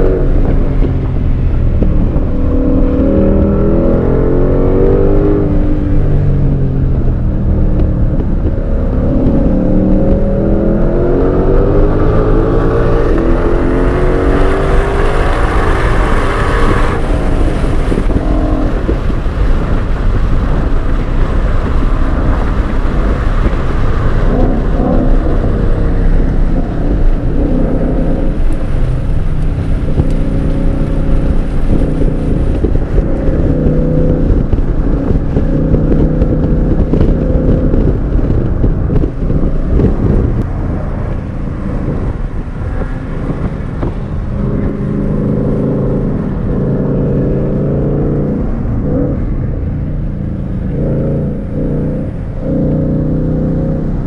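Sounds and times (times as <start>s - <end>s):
car engine accelerating: 0.0s - 54.0s
wind noise: 0.0s - 54.0s.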